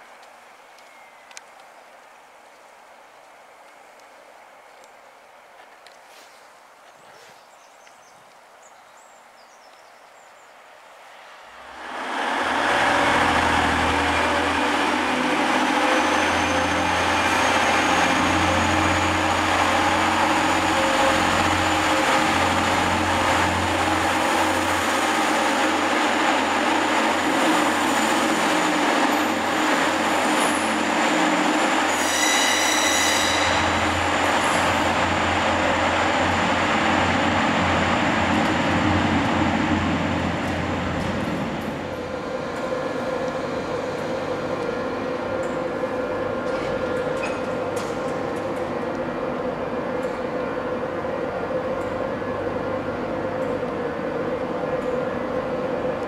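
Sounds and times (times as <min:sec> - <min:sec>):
train diesel engines running: 0:11.1 - 0:56.0.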